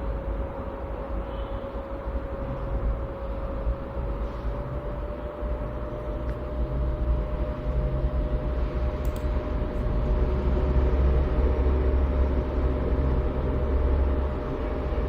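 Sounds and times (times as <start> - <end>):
computer cooling fans whirring: 0.0 - 15.0
steady hum tone: 0.0 - 15.0.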